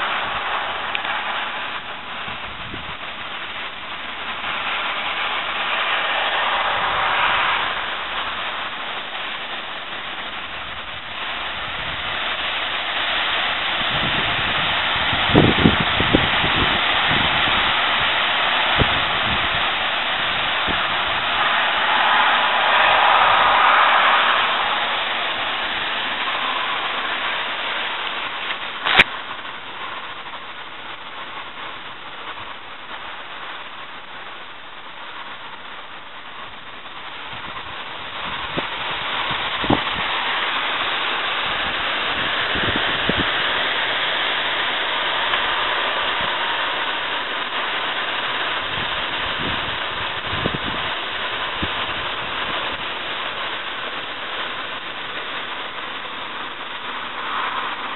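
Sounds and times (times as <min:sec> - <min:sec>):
wind rustling tree foliage: 0:00.0 - 0:57.9.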